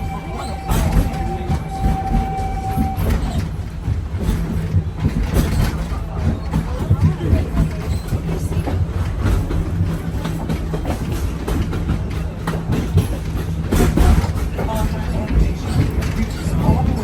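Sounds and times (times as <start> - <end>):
train rumbling on track: 0.0 - 17.0
train wheels clacking: 0.0 - 17.0.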